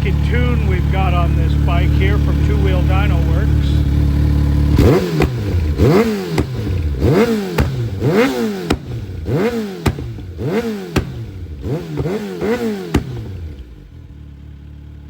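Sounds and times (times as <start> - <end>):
exhaust pops: 0.0 - 13.8
motorcycle engine revving: 0.0 - 15.0.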